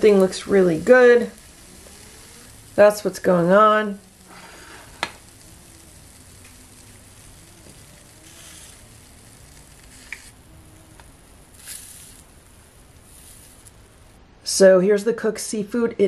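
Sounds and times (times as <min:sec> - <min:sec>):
seafood sizzling on griddle: 0:00.0 - 0:14.2.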